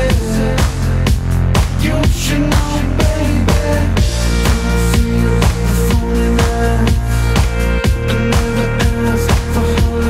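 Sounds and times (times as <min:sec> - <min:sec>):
music with heavy beat: 0:00.0 - 0:10.0.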